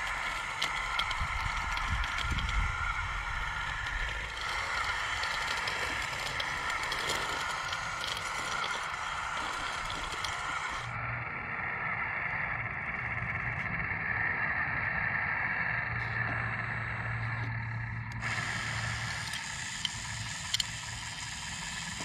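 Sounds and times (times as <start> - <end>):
electric hydraulic pump whine: 0.0 - 22.0.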